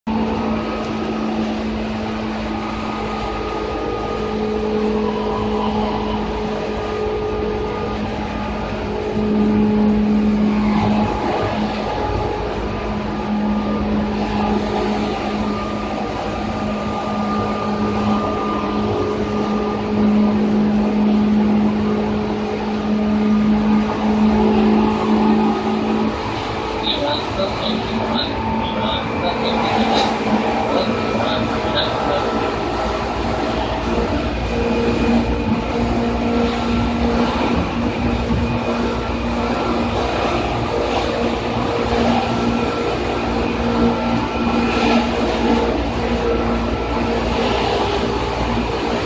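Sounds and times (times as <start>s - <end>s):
train motor low hum: 0.1s - 49.0s
wheel and rail rumbling: 0.1s - 49.0s.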